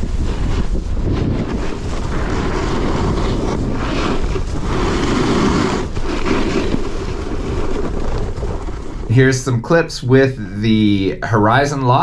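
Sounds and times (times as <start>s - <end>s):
snowboard scraping over snow: 0.0s - 9.8s
wind rushing on microphone: 0.0s - 9.9s.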